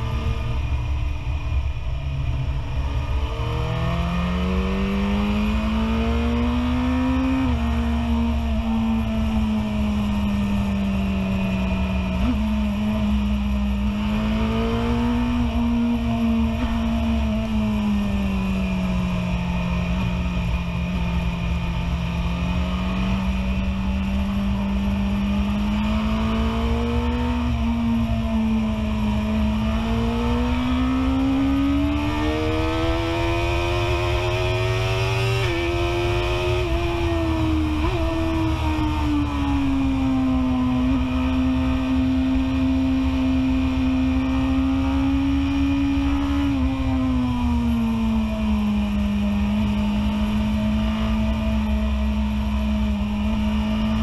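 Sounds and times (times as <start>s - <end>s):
motorcycle engine revving: 2.3s - 54.0s.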